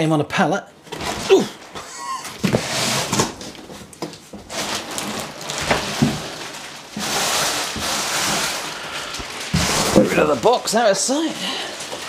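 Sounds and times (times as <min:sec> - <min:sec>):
plastic wrapping crinkling: 0:00.8 - 0:12.0.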